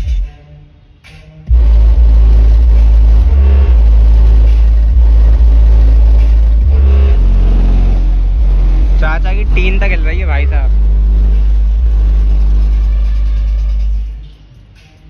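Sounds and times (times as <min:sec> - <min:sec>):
loud bass-heavy music from car: 0:00.0 - 0:15.0.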